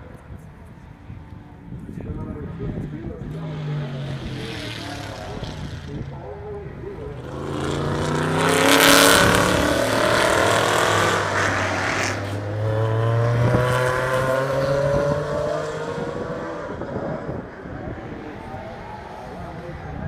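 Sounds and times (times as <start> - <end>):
race car engine passing: 2.8 - 20.0.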